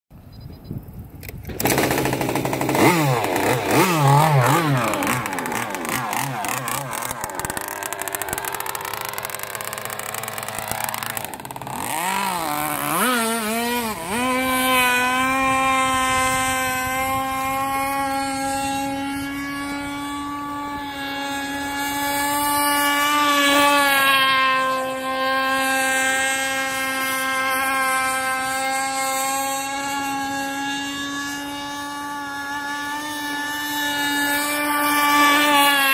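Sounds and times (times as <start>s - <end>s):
model boat engine revving: 1.2s - 35.9s.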